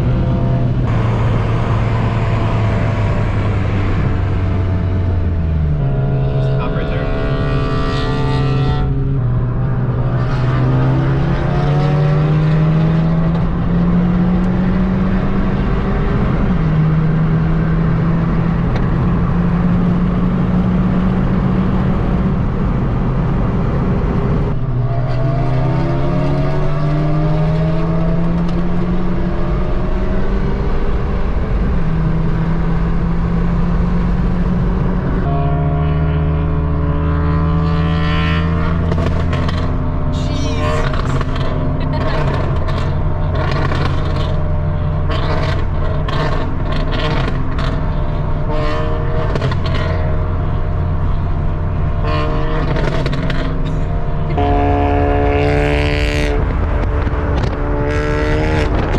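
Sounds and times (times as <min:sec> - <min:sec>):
car engine accelerating hard: 0:00.0 - 0:58.9.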